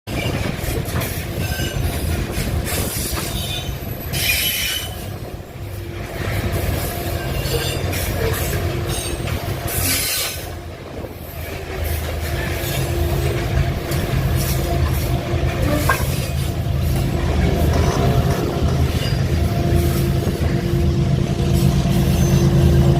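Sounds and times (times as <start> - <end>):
wheel-on-rail squeal: 0.1 - 5.2, 6.2 - 10.6, 11.2 - 20.6, 21.4 - 22.9
locomotive engine hum: 0.1 - 22.9.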